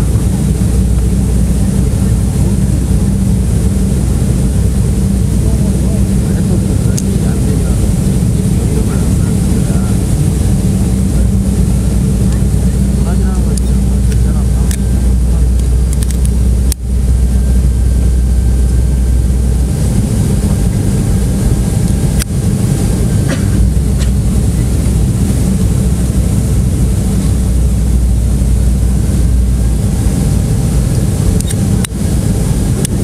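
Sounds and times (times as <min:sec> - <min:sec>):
airliner engine rumble: 0:00.0 - 0:33.0.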